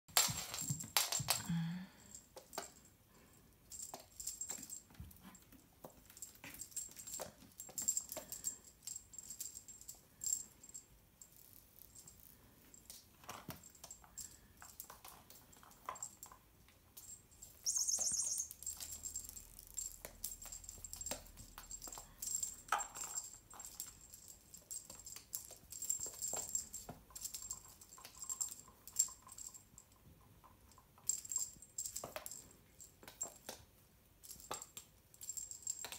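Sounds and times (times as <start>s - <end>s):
jingling rattle: 0.1s - 33.6s, 34.2s - 35.9s.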